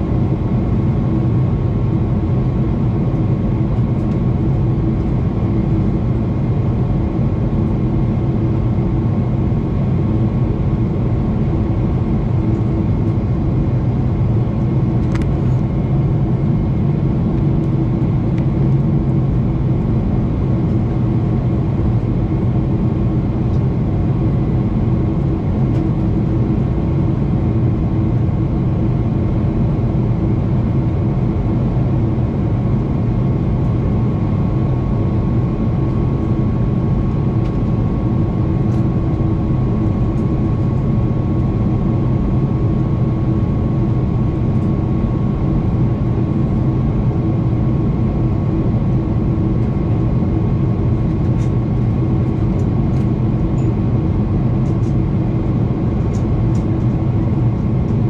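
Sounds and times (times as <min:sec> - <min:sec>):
airplane cabin engine roar: 0:00.0 - 0:58.0
steady hums: 0:00.0 - 0:58.0.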